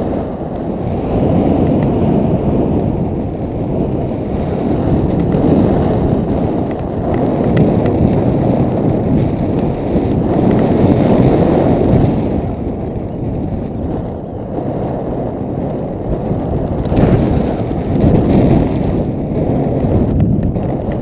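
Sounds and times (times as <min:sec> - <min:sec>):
wind rushing over camera: 0:00.0 - 0:21.0.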